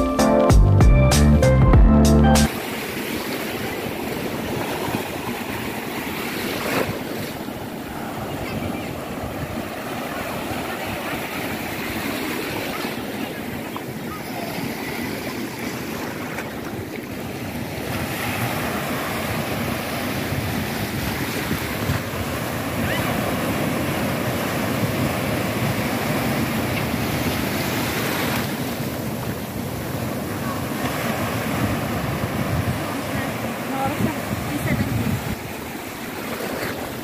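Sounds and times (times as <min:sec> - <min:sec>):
surf breaking on a beach: 0:02.5 - 0:37.0
wind buffeting the microphone: 0:03.6 - 0:15.8, 0:16.5 - 0:37.0.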